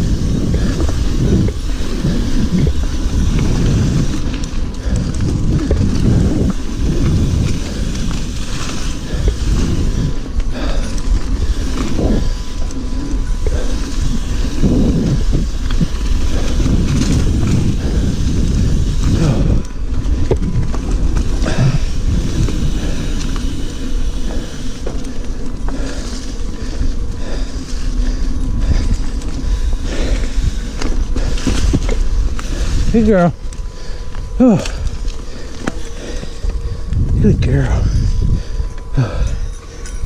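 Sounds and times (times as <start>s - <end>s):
bike clicks and rattles: 0.0s - 40.0s
wind and tyres rumbling: 0.0s - 40.0s.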